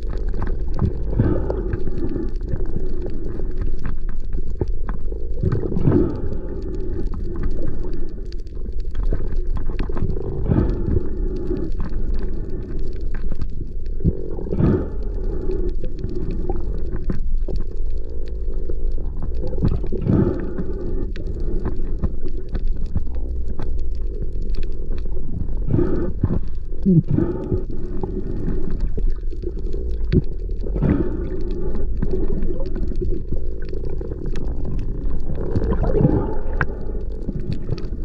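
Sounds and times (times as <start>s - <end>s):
muffled underwater rumble: 0.0s - 38.0s
water swishes: 0.0s - 38.0s.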